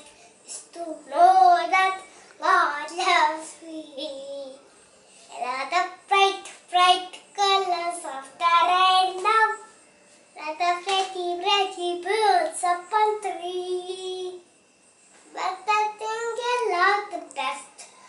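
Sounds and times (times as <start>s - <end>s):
girl singing: 0.0s - 4.6s, 5.3s - 9.8s, 10.4s - 14.5s, 15.3s - 18.0s.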